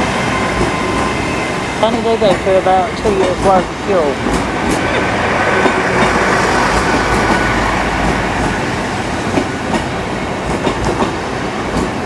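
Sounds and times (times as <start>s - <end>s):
diesel train rumbling: 0.0s - 12.0s
train wheels clicking over rails: 0.0s - 12.0s.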